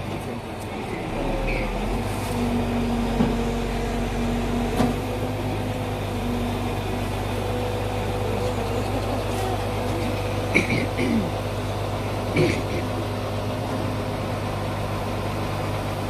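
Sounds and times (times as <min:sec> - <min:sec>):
truck engine and hydraulic hum: 0:00.0 - 0:16.0.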